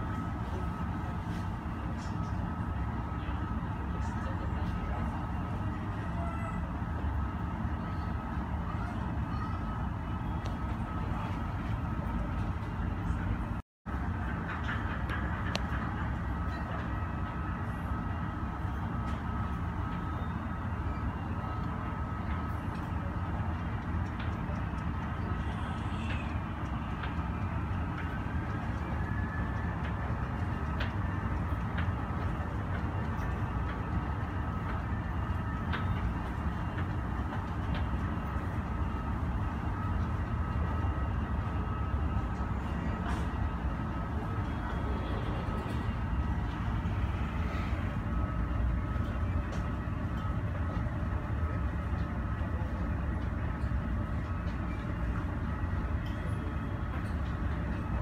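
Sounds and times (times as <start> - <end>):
airport apron rumble: 0.0 - 58.0.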